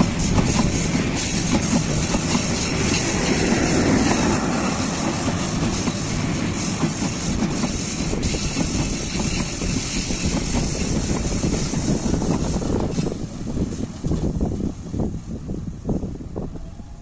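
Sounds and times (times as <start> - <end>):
train coaches rumbling past: 0.0 - 17.0.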